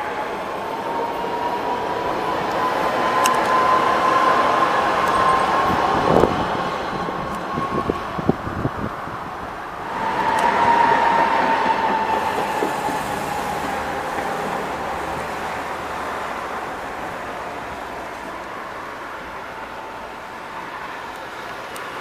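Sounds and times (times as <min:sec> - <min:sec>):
tram high whine: 0:00.0 - 0:22.0
tram passing on track: 0:00.0 - 0:22.0.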